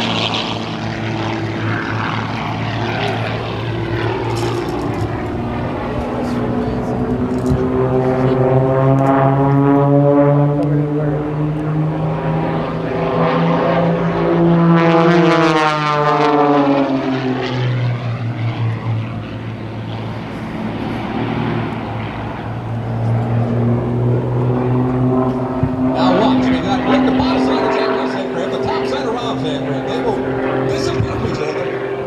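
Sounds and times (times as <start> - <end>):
propeller plane engines: 0.0 - 32.0.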